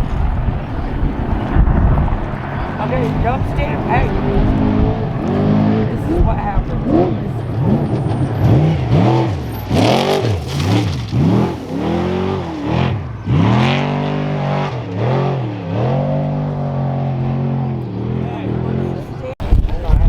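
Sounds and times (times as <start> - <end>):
race truck engine revving: 0.0 - 19.4.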